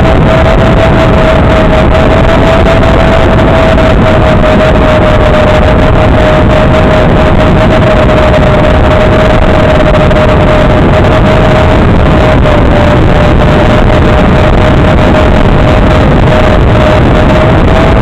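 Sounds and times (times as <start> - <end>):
drone motor whine: 0.0 - 18.0
drone rushing noise: 0.0 - 18.0.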